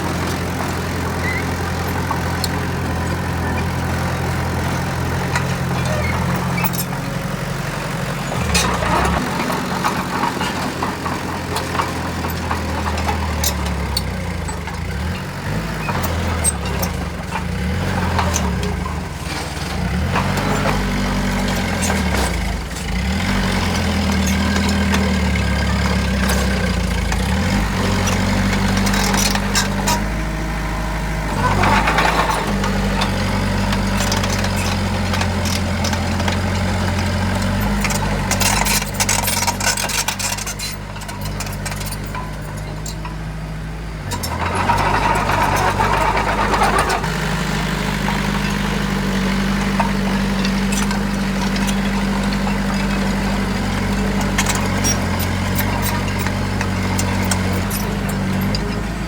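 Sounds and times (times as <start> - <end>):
clanks and knocks: 0.0 - 30.5, 31.3 - 59.0
heavy diesel engines: 0.0 - 59.0.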